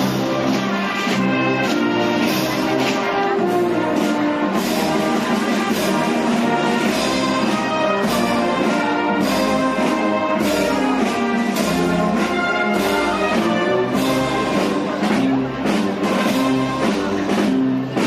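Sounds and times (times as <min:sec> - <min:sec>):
brass band playing march: 0:00.0 - 0:18.0.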